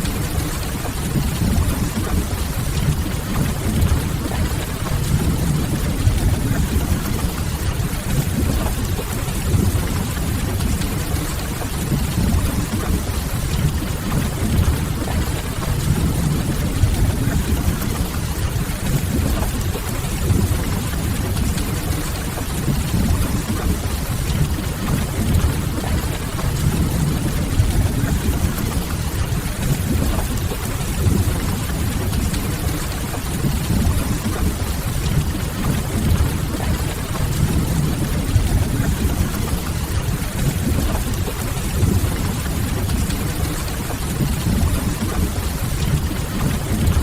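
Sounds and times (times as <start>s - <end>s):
deep constant rumble: 0.0s - 47.0s
steady rain: 0.0s - 47.0s.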